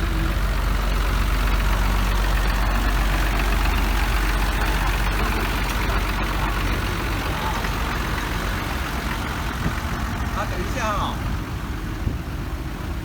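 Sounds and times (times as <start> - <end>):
train engine humming: 0.0 - 13.0.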